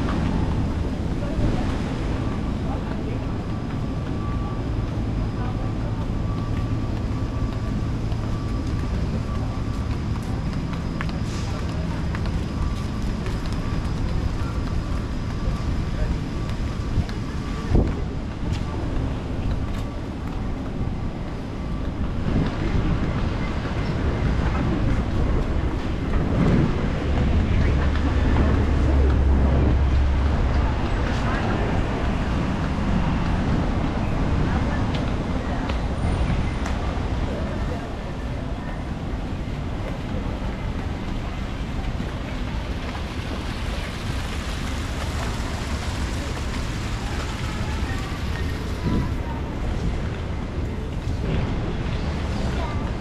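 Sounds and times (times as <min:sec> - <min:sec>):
street noise: 0:00.0 - 0:53.0
wind buffeting microphone: 0:00.0 - 0:53.0.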